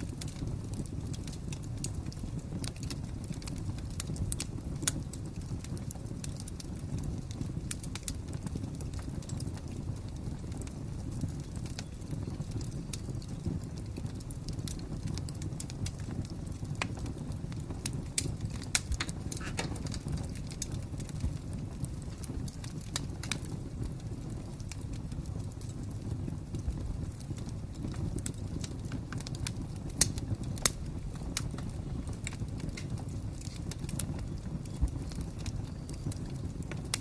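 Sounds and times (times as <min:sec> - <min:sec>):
fire crackling: 0:00.0 - 0:37.0.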